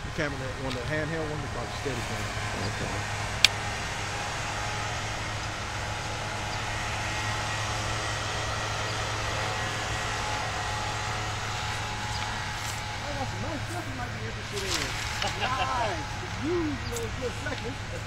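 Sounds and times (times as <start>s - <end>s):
constant low hum: 0.0s - 18.0s.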